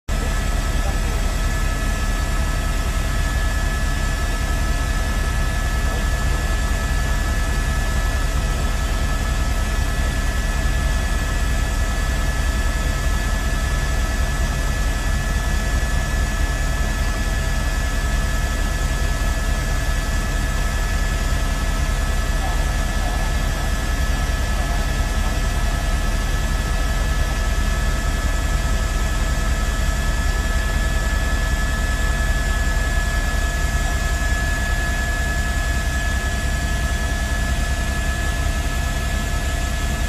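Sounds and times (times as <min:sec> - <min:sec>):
helicopter engine and rotor rumble: 0:00.1 - 0:40.0.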